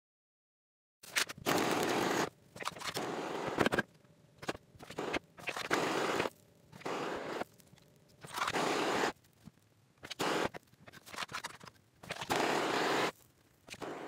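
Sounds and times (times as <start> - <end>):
paintbrush scraping plastic: 1.1 - 14.0.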